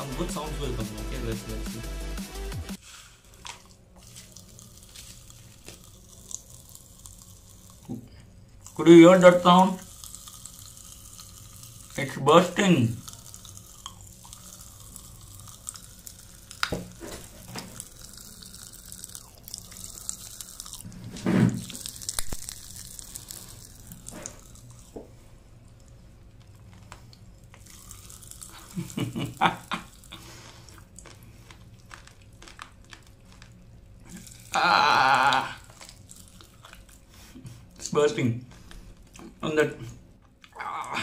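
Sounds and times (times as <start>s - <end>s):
popping candy crackling in mouth: 2.7s - 37.1s.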